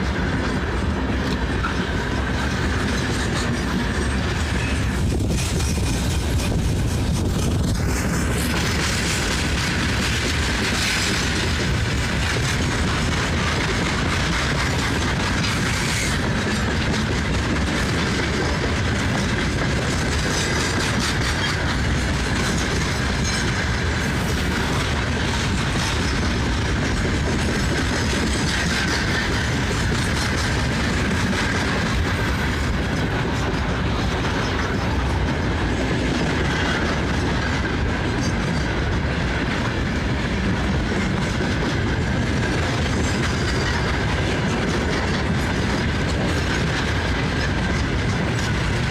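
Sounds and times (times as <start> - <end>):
train wheels clattering over rails: 0.0 - 48.9.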